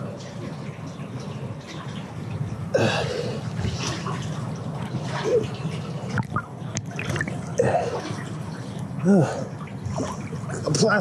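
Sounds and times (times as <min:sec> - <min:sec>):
river water sloshing and gurgling: 0:00.0 - 0:11.0.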